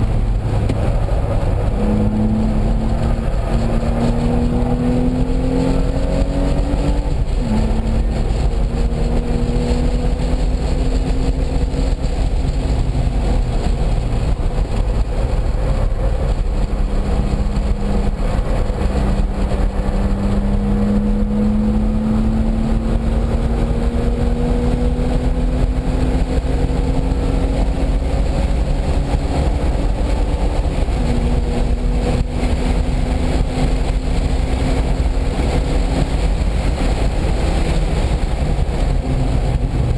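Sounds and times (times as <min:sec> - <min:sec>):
race car engine revving: 0:00.0 - 0:39.9
wind and road rumble: 0:00.0 - 0:39.9.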